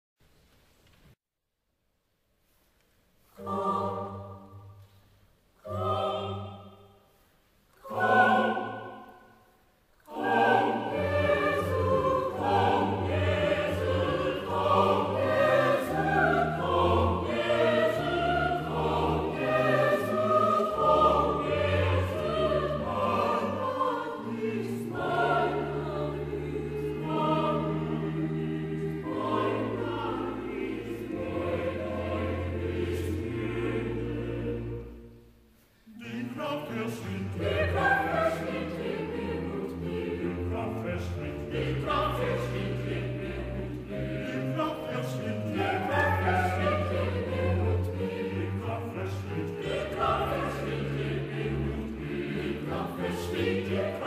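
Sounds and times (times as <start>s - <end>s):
choral and orchestral music: 2.5s - 54.0s
held choral chords: 3.3s - 4.9s, 5.5s - 54.0s.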